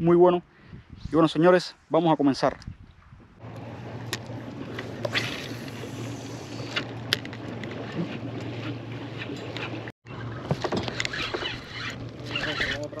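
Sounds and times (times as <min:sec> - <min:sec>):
low hum and wind noise: 0:00.0 - 0:13.0.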